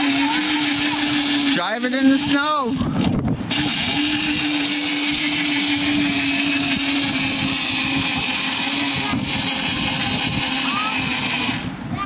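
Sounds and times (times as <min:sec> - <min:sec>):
toy car electric motor whining: 0:00.0 - 0:02.8, 0:03.4 - 0:11.8.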